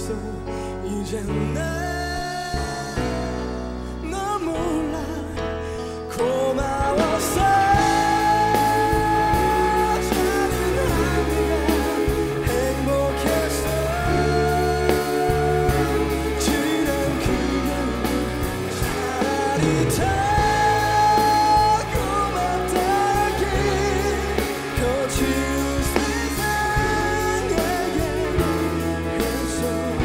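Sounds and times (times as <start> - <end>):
live pop band: 0.0 - 30.0
person singing with vibrato: 0.0 - 30.0.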